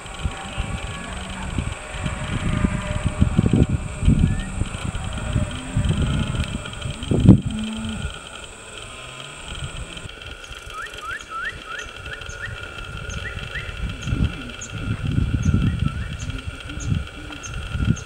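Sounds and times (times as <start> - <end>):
bird chirping: 0.0 - 18.0
insects buzzing: 0.0 - 18.0
wind buffeting microphone: 0.0 - 18.0.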